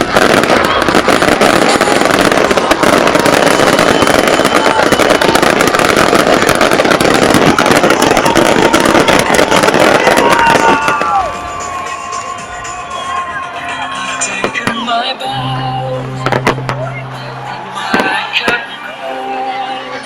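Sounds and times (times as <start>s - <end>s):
fireworks crackling bangs: 0.0s - 13.3s, 14.1s - 15.4s, 16.1s - 16.9s, 17.8s - 18.8s.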